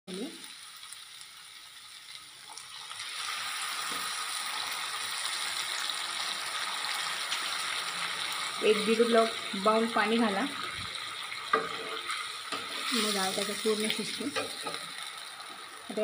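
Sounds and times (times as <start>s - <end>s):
lentils frying: 0.1s - 16.0s
water hissing in hot pan: 0.1s - 16.0s.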